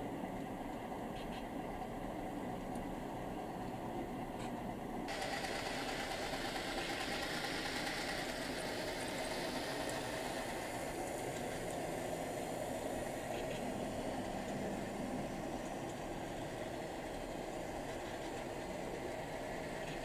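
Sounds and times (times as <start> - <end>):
model diesel engine hum: 0.0 - 20.0.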